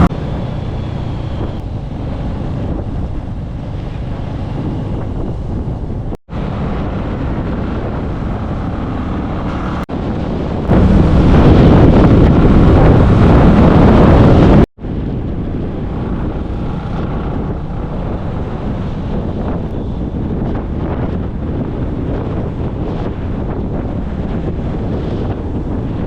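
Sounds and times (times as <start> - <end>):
motorbike road and engine noise: 0.0 - 26.0
wind buffeting microphone: 0.0 - 26.0.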